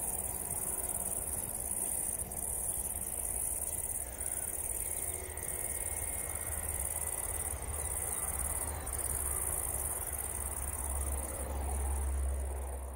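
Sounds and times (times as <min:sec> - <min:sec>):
insect chirring: 0:00.0 - 0:12.9.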